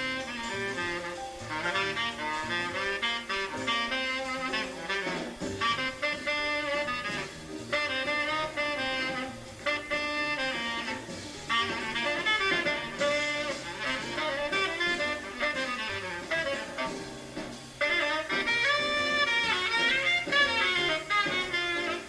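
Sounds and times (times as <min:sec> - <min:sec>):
drums: 0:00.0 - 0:22.0
tenor saxophone: 0:00.0 - 0:22.0
walking bass: 0:00.0 - 0:22.0.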